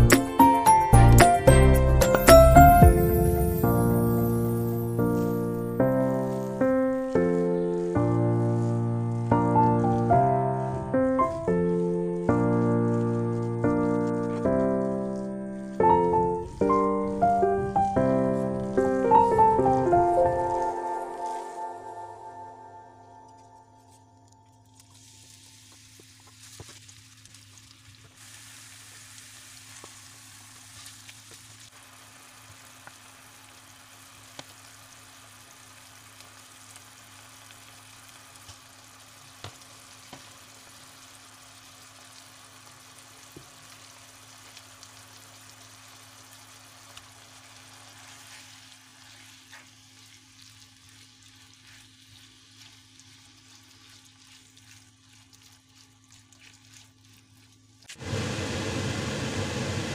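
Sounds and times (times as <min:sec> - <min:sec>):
vegetables sizzling in oil: 0:00.0 - 0:23.4, 0:24.8 - 0:59.9.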